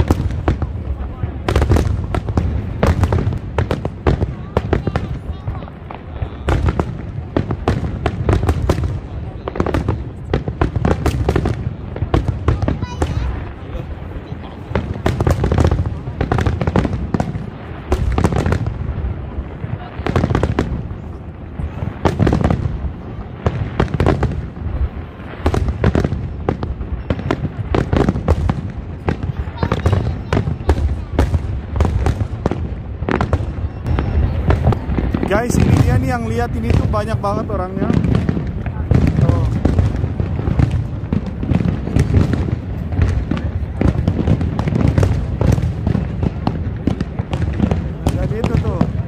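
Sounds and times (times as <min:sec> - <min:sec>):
fireworks bangs and cracks: 0:00.0 - 0:49.0.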